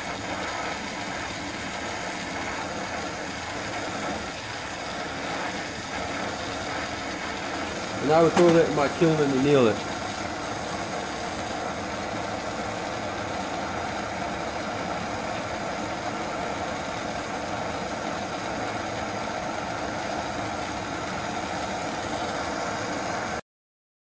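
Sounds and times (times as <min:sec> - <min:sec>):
shop equipment running: 0:00.0 - 0:23.4
torch hissing: 0:00.0 - 0:23.4.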